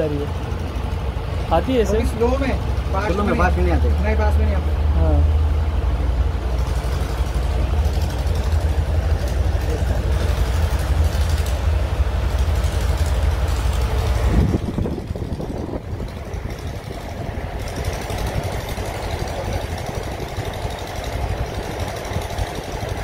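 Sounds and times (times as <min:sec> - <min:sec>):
machinery rumbling: 0:00.0 - 0:23.0.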